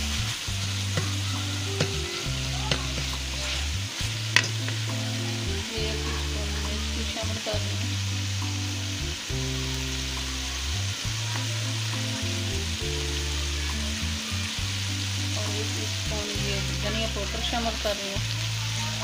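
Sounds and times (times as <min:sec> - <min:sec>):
background music with low notes: 0:00.0 - 0:19.0
masala sizzling in oil: 0:00.0 - 0:19.0.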